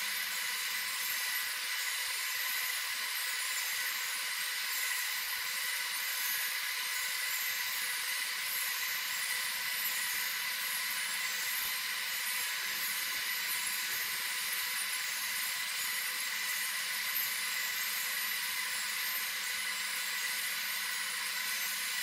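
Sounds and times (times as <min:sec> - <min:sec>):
faint high whine: 0:00.0 - 0:22.0
steady mechanical hiss: 0:00.0 - 0:22.0.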